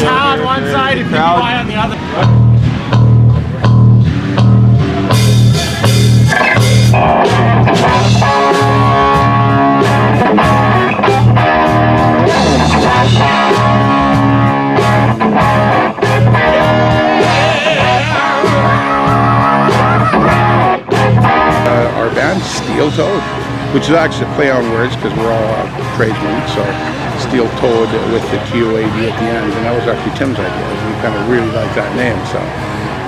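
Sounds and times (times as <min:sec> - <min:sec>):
pulsing bass beat: 0:00.0 - 0:31.0
rock music with guitar: 0:00.0 - 0:33.0.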